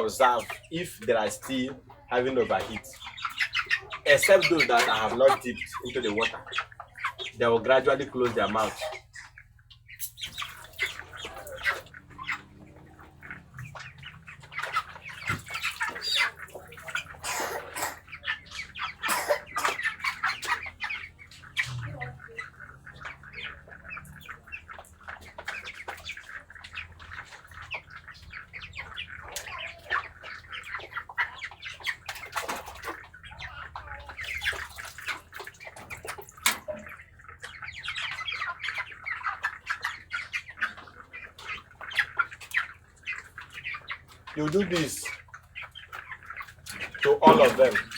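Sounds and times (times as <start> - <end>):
water splashing: 0.0 - 39.0, 39.8 - 47.9
chickens squawking: 0.0 - 47.9.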